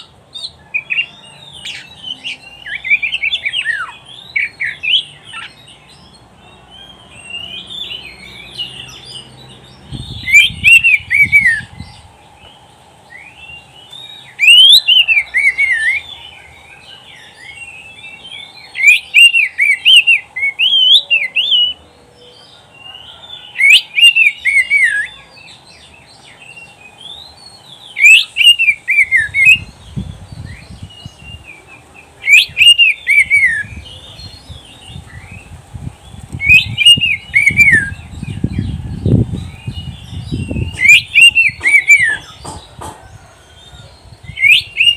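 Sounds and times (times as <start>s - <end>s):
bird whistling song phrases: 0.0s - 42.5s, 43.1s - 44.9s
soft bird twittering: 0.0s - 44.9s.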